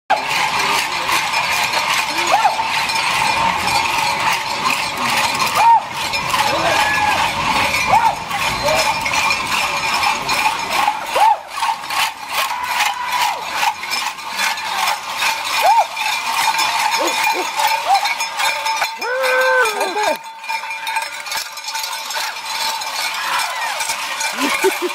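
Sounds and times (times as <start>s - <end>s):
cowbells clanging: 0.1s - 24.9s
iron chain dragging on pavement: 0.1s - 24.9s
voices calling out: 0.1s - 24.9s.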